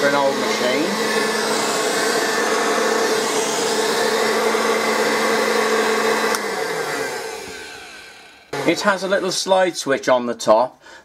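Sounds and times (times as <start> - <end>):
hand vacuum cleaner running: 0.0 - 10.1.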